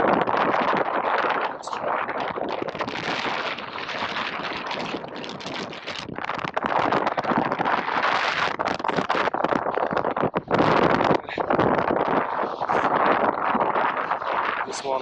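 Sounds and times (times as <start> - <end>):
water rushing and splashing: 0.0 - 15.0
wind buffeting microphone: 0.0 - 15.0.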